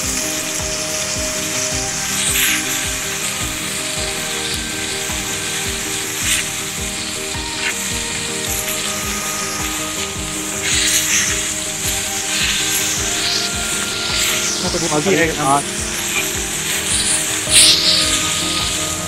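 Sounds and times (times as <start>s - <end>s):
background music with steady beat: 0.0s - 19.0s
steak sizzling in a pan: 0.0s - 19.0s.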